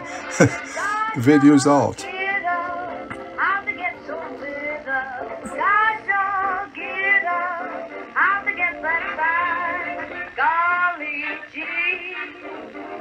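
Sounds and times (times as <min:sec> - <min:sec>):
old song through radio speaker: 0:00.0 - 0:13.0.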